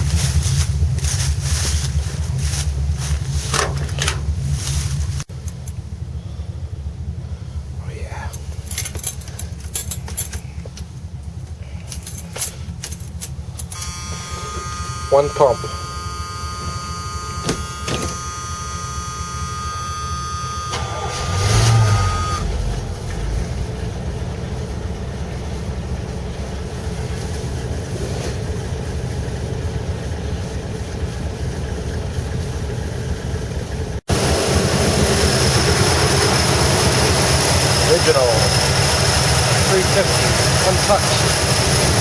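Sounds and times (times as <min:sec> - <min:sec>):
car engine cranking and idling: 0:00.0 - 0:42.0.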